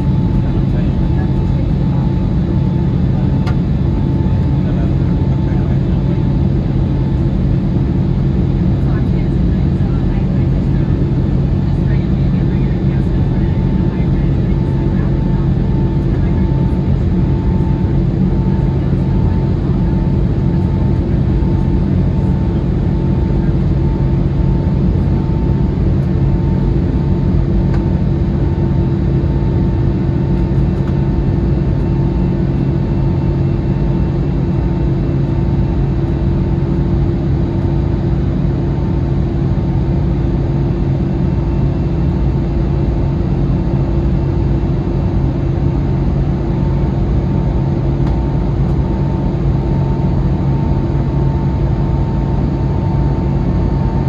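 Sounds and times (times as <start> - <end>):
jet engine drone in cabin: 0.0 - 54.0.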